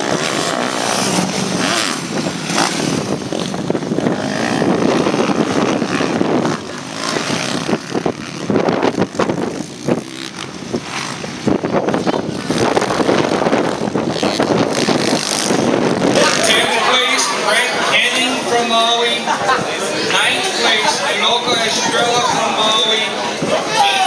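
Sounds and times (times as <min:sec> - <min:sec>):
motocross bike engines: 0:00.0 - 0:24.0.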